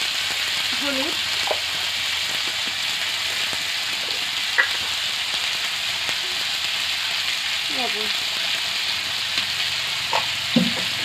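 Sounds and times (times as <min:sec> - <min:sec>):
potato wedges sizzling in oil: 0:00.0 - 0:11.0.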